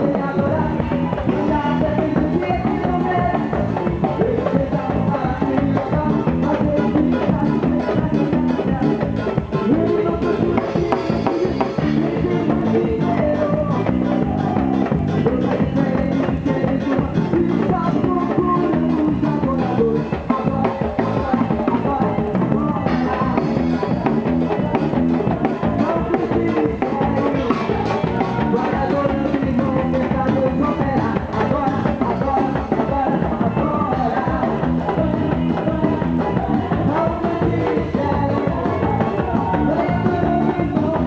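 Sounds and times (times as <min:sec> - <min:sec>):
drum kit beat: 0:00.0 - 0:41.0
electric guitar: 0:00.0 - 0:41.0
person singing: 0:00.0 - 0:41.0
rock band playing: 0:00.0 - 0:41.0.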